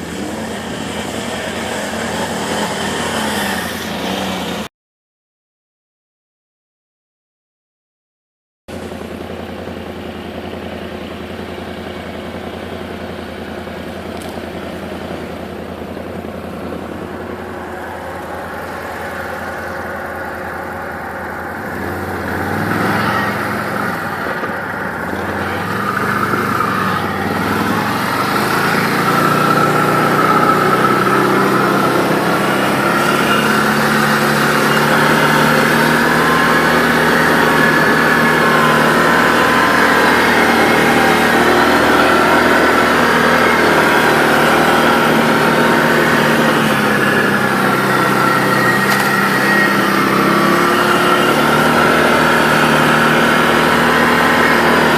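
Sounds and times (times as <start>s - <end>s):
atv engine revving: 0.0s - 4.7s, 8.7s - 54.9s.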